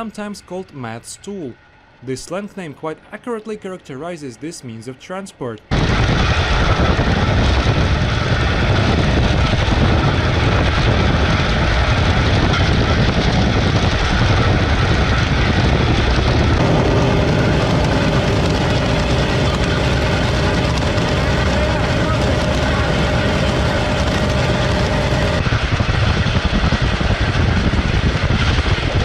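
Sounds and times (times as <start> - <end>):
rail car engine and running noise: 0.0 - 4.1, 5.7 - 29.0.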